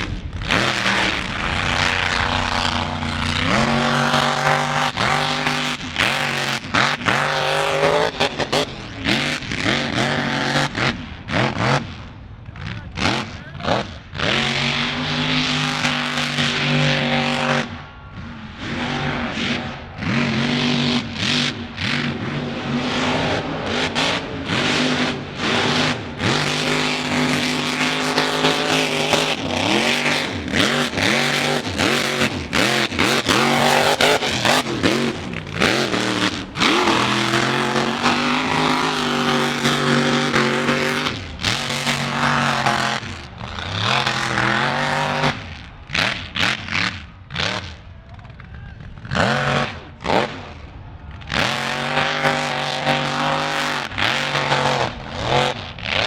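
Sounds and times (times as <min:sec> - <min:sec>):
truck engines revving hard: 0:00.0 - 0:56.0.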